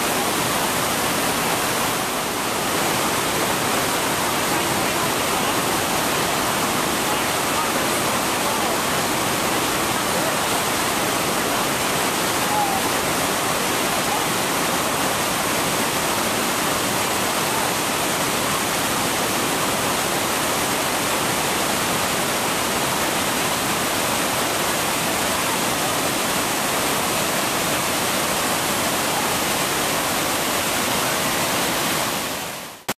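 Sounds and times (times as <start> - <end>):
rush of falling water: 0.0 - 32.9.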